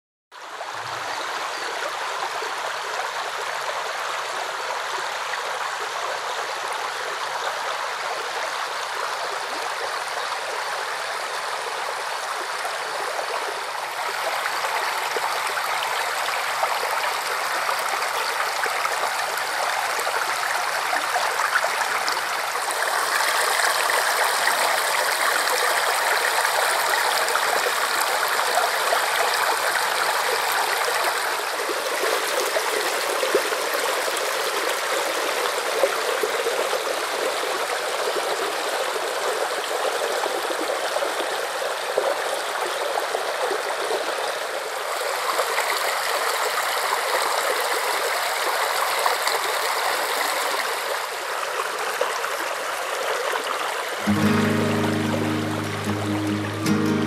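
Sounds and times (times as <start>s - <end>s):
rushing water: 0.4s - 57.0s.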